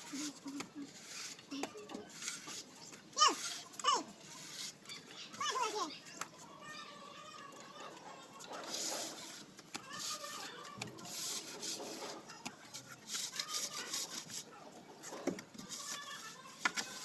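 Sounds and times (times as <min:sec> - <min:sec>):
plastering tool scraping wall: 0:00.0 - 0:05.6, 0:08.6 - 0:17.0.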